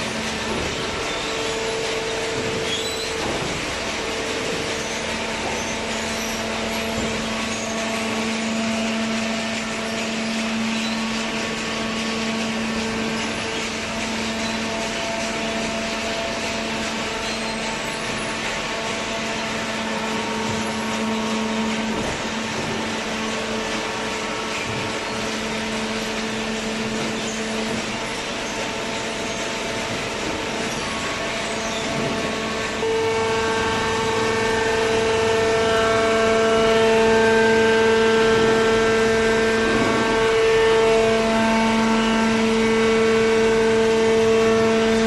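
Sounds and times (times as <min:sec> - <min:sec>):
motor and hydraulic pump humming: 0:00.0 - 0:45.0.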